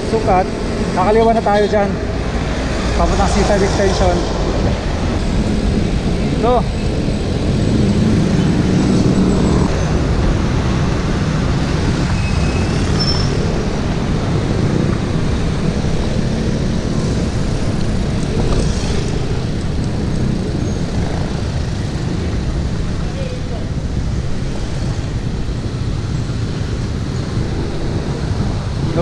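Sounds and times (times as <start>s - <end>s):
city traffic noise: 0.0s - 29.0s
vehicle engine hum: 0.0s - 29.0s.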